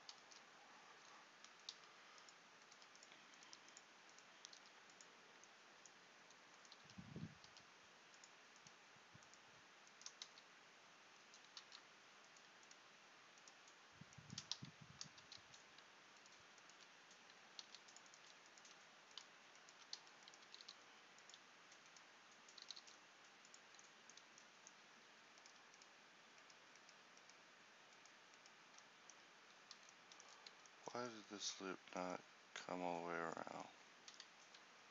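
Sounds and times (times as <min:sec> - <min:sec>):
steady low hiss: 0:00.0 - 0:34.9.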